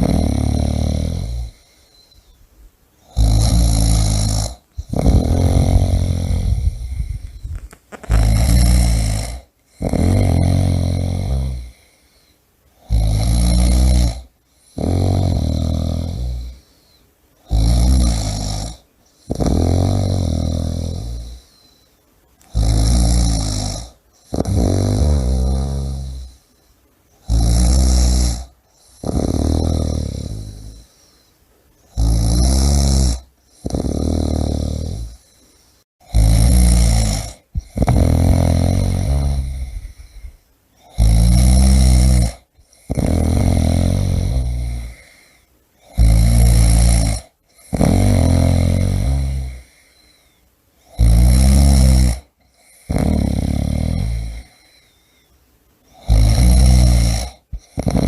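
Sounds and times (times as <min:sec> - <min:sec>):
person snoring: 0:00.0 - 0:02.4, 0:03.0 - 0:26.5, 0:27.2 - 0:31.3, 0:31.9 - 0:35.4, 0:36.0 - 0:55.0, 0:55.9 - 0:58.0.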